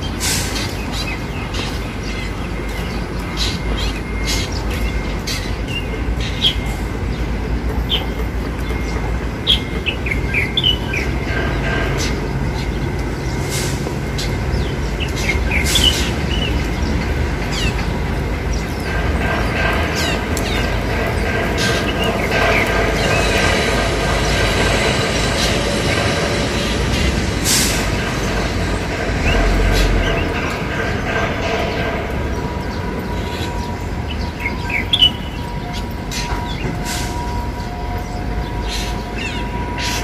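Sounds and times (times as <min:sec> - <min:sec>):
steady rumbling background: 0:00.8 - 0:36.0.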